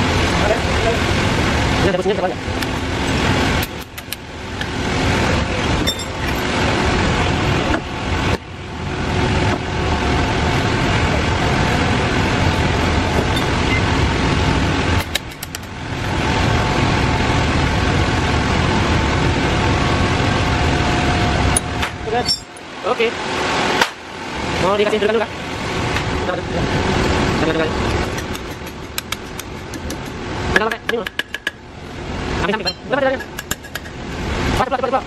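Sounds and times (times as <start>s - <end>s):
engine running loudly: 0.0s - 32.6s.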